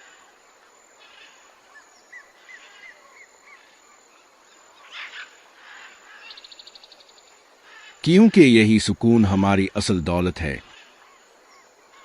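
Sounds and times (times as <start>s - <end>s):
soft steady background hiss: 0.0s - 12.0s.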